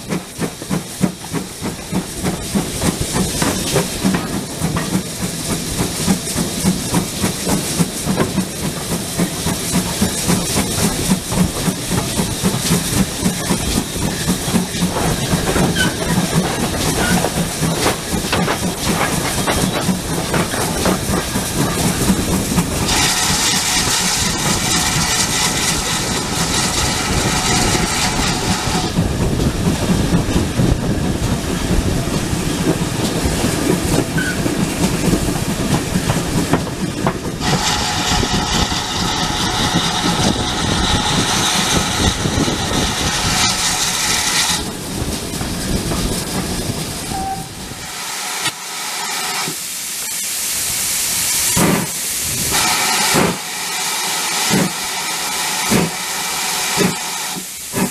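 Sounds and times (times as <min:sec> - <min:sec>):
steam hiss: 0:00.0 - 0:57.9
train wheels on rail: 0:00.0 - 0:57.9.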